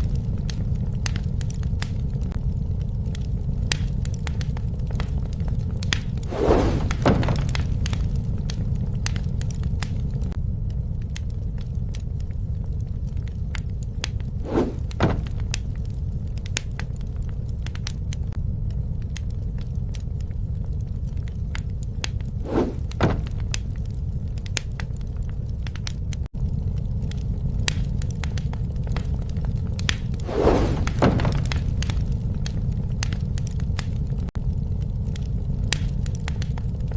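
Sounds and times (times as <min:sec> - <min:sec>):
campfire crackling: 0:00.0 - 0:36.9.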